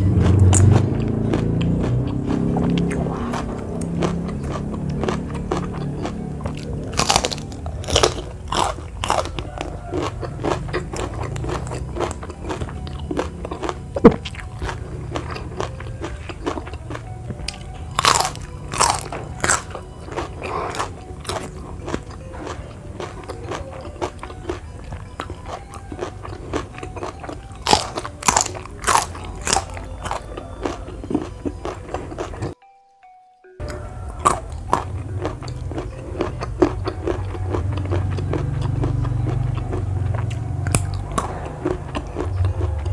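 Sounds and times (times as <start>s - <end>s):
crunching raw vegetables: 0.0s - 32.6s, 33.6s - 42.9s.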